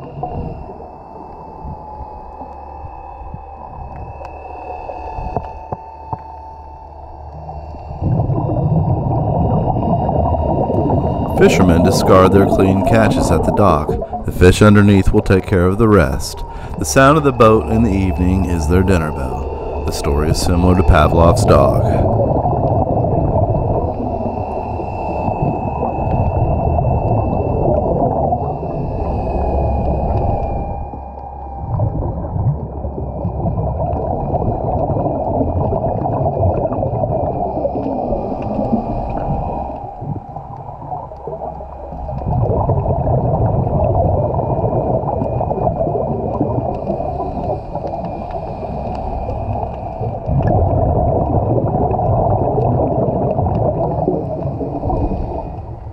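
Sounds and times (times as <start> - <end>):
boat engine rumble underwater: 0.0 - 55.9.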